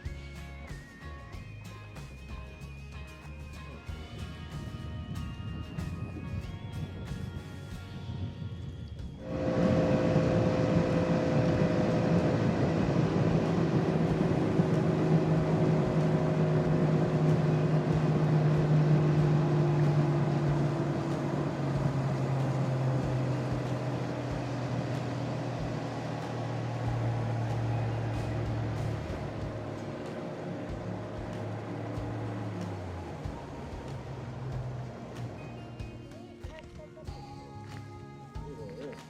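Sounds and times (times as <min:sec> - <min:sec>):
outboard motor running: 0:03.8 - 0:37.7.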